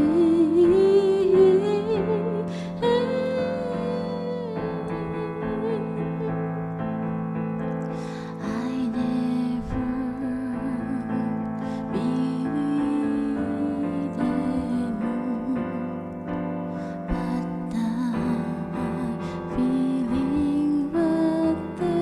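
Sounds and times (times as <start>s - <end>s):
electric piano chords: 0.0s - 22.0s
held melody line: 0.0s - 22.0s.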